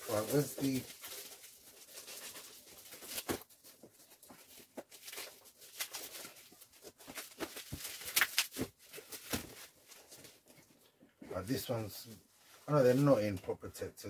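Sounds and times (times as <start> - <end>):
bubble wrap crinkling and rustling: 0.0 - 10.7, 11.4 - 13.5.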